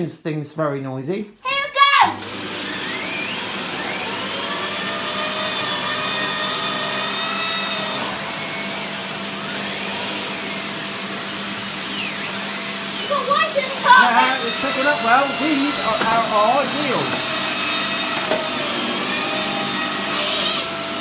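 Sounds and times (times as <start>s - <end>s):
vacuum cleaner running: 2.1s - 21.0s
vacuum whine: 2.1s - 21.0s.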